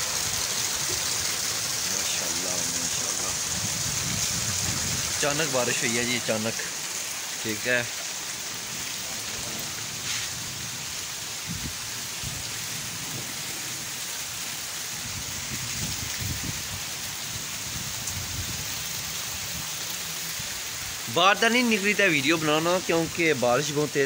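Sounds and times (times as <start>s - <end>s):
heavy rain on ground: 0.0s - 24.0s.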